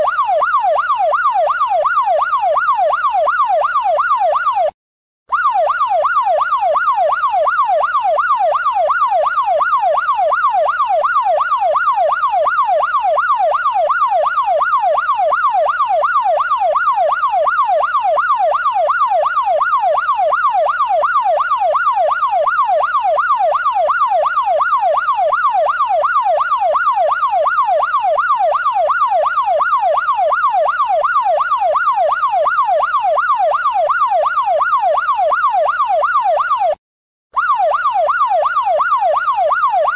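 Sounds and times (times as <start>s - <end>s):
police siren yelping: 0.0s - 36.8s, 37.4s - 39.9s.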